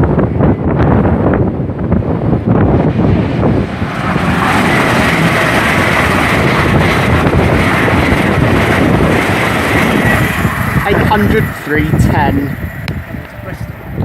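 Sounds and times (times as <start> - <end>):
steady high whine: 0.0 - 14.0
train passing at speed: 0.0 - 14.0.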